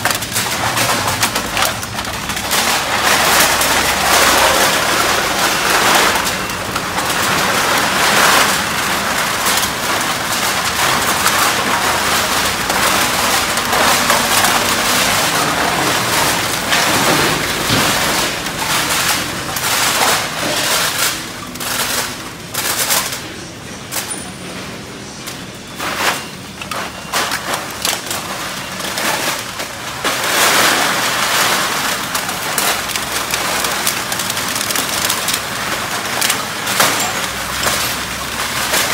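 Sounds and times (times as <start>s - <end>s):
aluminum cans clattering: 0.0s - 23.2s, 25.8s - 38.9s
conveyor belt: 0.0s - 38.9s.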